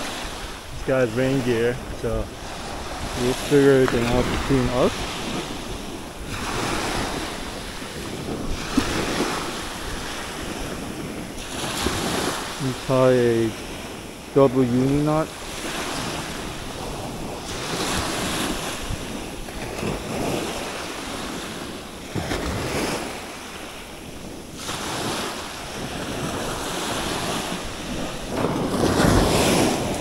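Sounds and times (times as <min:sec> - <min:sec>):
small waves breaking on shore: 0:00.0 - 0:30.0
wind rumbling on microphone: 0:00.0 - 0:30.0.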